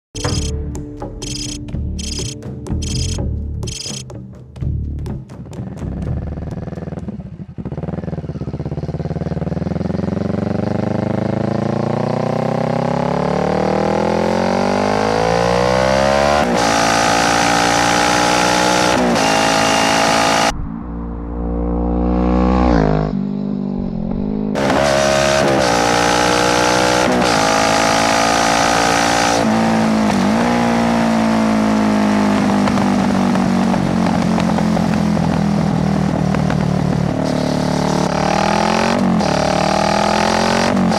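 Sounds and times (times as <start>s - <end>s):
motorcycle engine revving: 1.2s - 4.0s, 5.6s - 40.9s.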